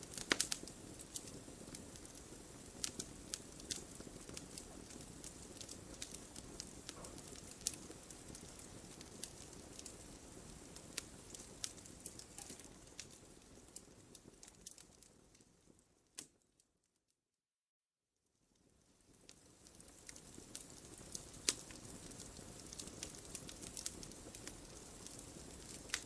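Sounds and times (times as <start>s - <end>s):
fireplace logs crackling: 0.0s - 16.4s, 19.1s - 26.0s.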